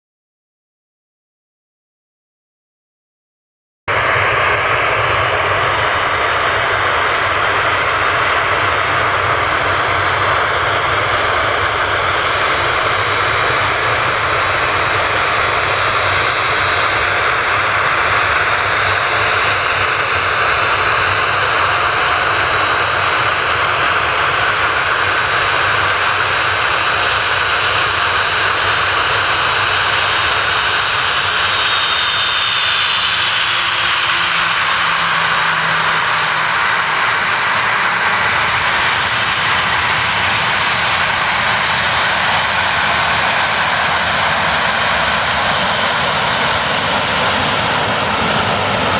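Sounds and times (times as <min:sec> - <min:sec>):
jet engines at high thrust: 0:03.9 - 0:48.9.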